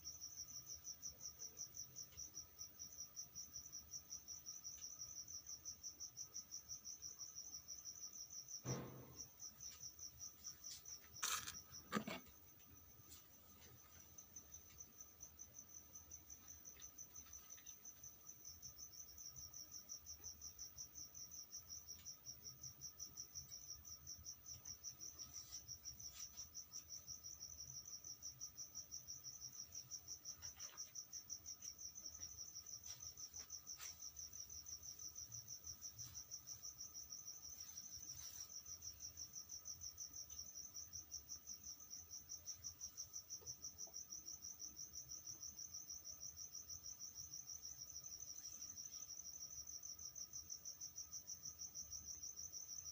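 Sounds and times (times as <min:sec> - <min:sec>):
cricket chirping: 0:00.0 - 0:52.9.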